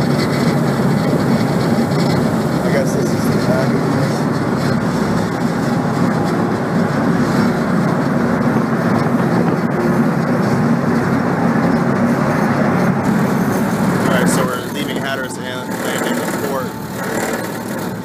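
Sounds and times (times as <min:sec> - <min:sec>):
ship diesel engines rumbling: 0:00.0 - 0:18.0
water churning in propeller wake: 0:00.0 - 0:18.0.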